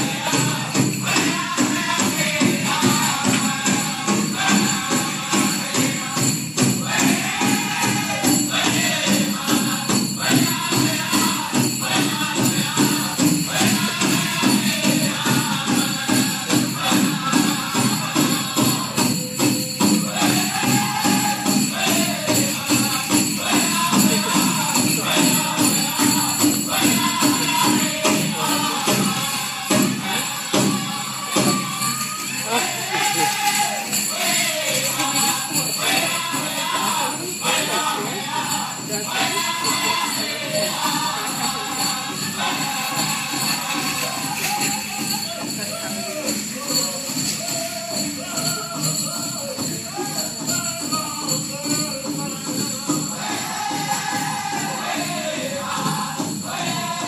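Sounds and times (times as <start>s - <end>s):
bells jingling: 0.0s - 57.0s
steady drumbeat: 0.0s - 57.0s
voices singing: 0.0s - 57.0s.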